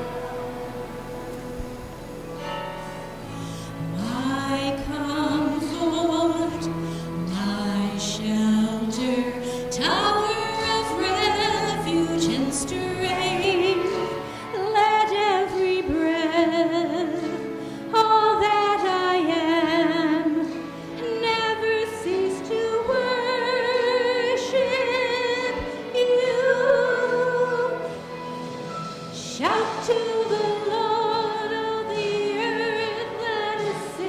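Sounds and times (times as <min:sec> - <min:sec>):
person singing with vibrato: 0:03.2 - 0:28.3, 0:29.0 - 0:34.0.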